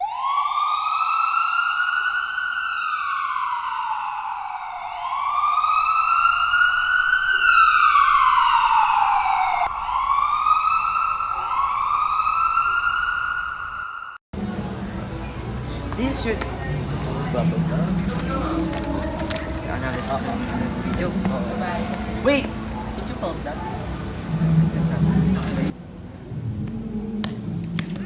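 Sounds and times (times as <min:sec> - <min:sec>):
wailing emergency siren: 0:00.0 - 0:14.2, 0:16.6 - 0:28.0.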